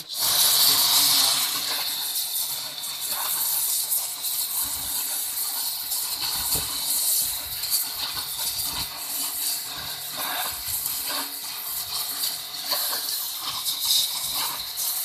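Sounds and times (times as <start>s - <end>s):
pressure washer jet hissing: 0.0s - 15.0s.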